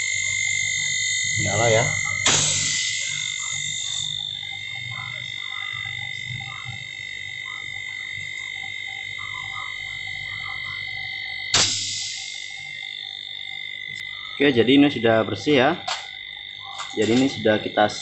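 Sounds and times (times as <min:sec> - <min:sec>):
compressor hissing and humming: 0:00.0 - 0:18.0.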